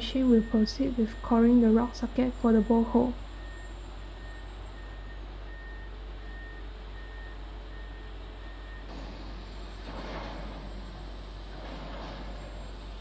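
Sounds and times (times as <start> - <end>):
heavy construction machine running: 0.0 - 13.0
reversing alarm beeping: 0.0 - 13.0.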